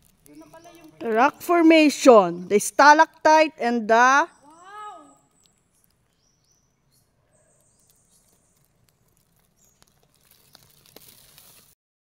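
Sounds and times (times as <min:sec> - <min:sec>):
high-pitched chirps and ticks: 0:00.0 - 0:11.3
faint outdoor ambience: 0:00.0 - 0:11.8.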